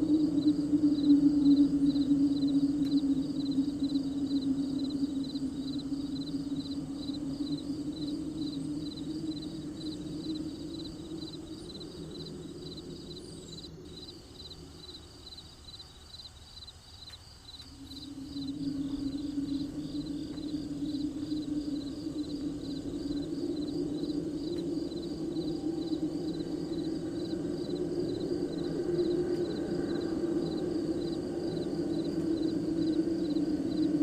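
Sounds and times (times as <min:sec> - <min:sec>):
crickets chirping: 0:00.0 - 0:34.0
low steady hum: 0:00.0 - 0:34.0.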